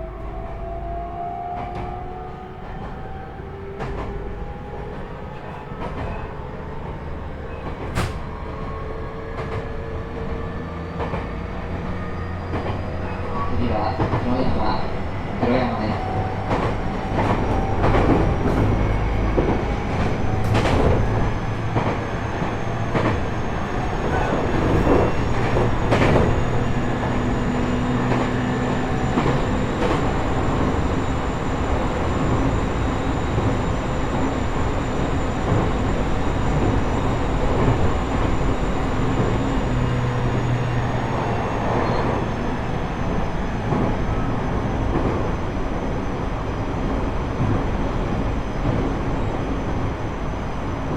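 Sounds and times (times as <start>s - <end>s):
wheel-on-rail rumble: 1.6s - 50.9s.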